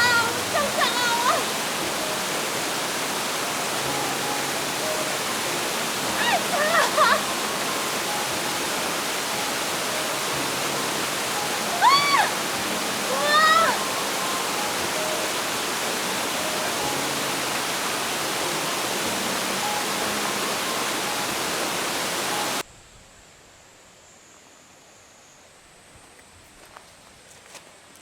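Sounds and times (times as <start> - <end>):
stream water rushing: 0.0 - 22.6.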